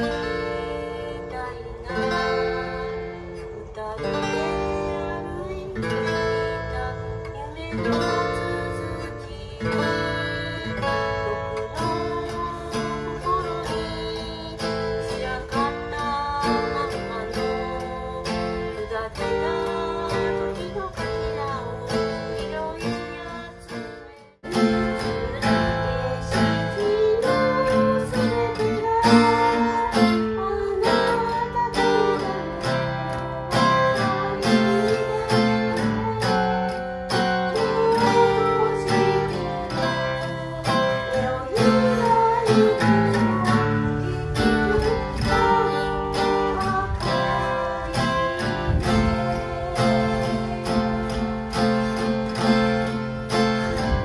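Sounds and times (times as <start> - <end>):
acoustic guitar strumming: 0.0 - 54.0
person singing: 0.0 - 54.0.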